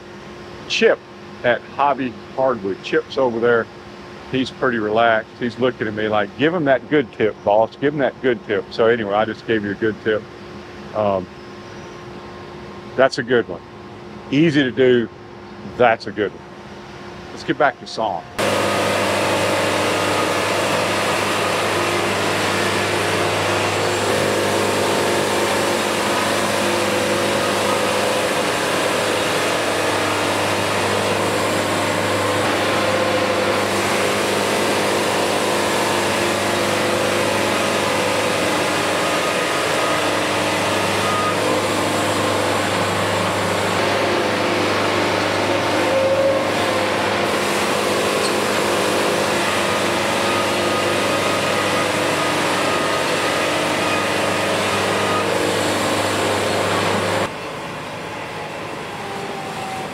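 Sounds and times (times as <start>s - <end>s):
band sawmill cutting log: 0.0s - 11.4s, 17.3s - 59.9s.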